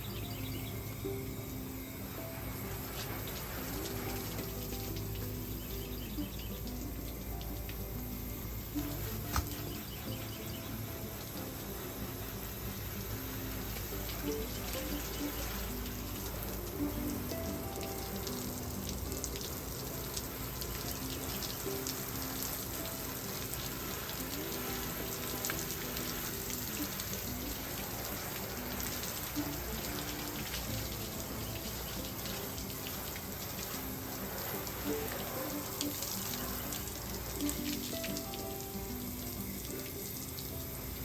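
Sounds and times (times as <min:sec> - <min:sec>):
background music melody: 0:00.0 - 0:41.0
water spraying from a hose: 0:00.0 - 0:41.0.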